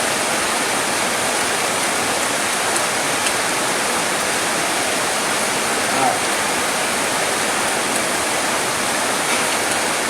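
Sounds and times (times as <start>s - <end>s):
dense rainfall hissing: 0.0s - 10.0s.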